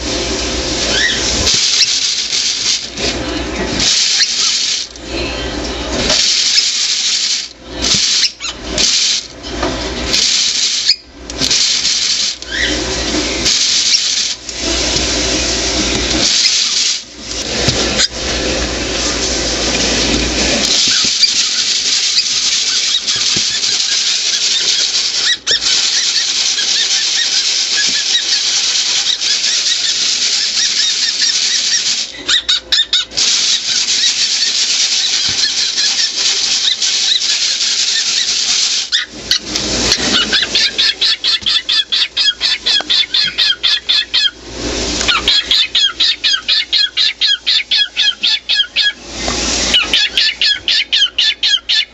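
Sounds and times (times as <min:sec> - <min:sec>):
popcorn kernels rattling in glass jar: 0:00.8 - 0:18.1, 0:19.4 - 0:44.3.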